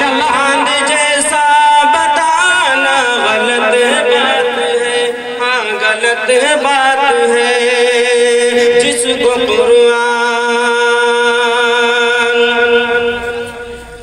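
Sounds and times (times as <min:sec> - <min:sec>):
man chanting long notes: 0:00.0 - 0:14.0.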